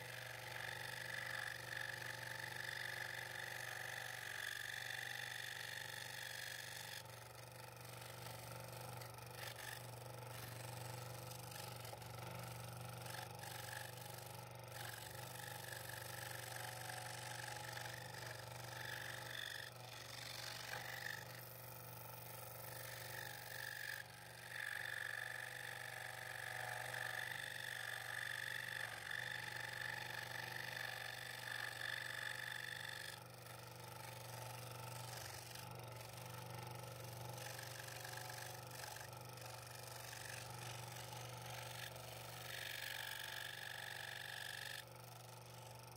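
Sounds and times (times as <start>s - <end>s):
scroll saw cutting wood: 0.0s - 45.9s.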